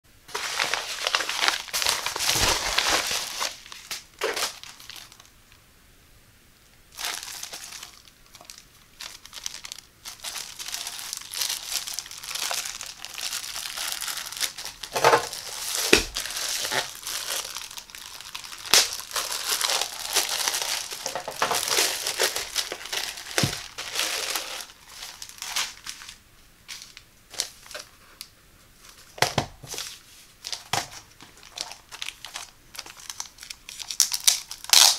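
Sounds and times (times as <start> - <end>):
plastic packaging crinkling: 0.3 - 5.6, 6.9 - 34.9.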